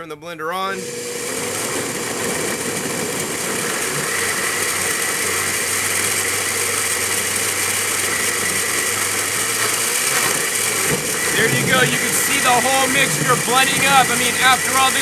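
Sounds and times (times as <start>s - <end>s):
blender motor whining: 0.8s - 15.0s.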